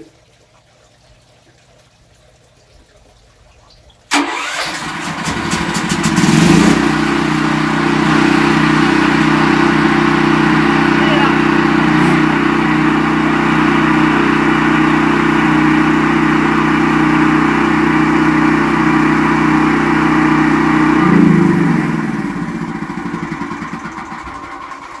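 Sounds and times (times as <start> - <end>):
generator engine running: 4.1 - 25.0.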